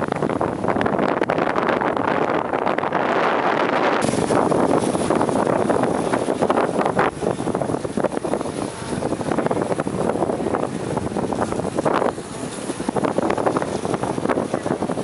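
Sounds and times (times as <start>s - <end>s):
boat rushing through sea: 0.0s - 15.0s
wind buffeting microphone: 0.0s - 15.0s.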